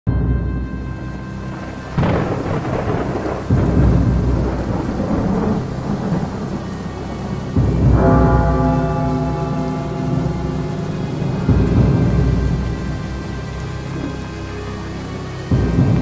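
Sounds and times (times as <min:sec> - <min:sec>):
steady rain: 0:00.1 - 0:16.0
sustained music chords: 0:00.1 - 0:16.0
thunder rumbling: 0:00.1 - 0:16.0.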